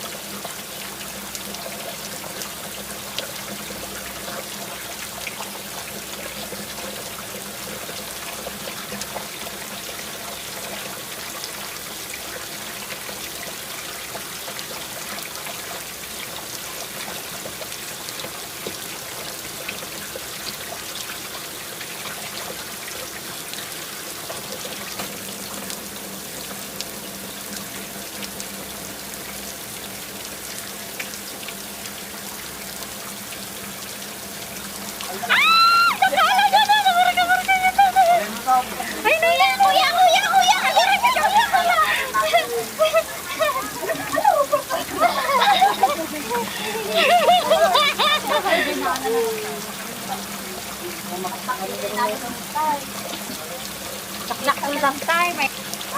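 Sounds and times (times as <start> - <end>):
running water trickling: 0.0 - 55.9.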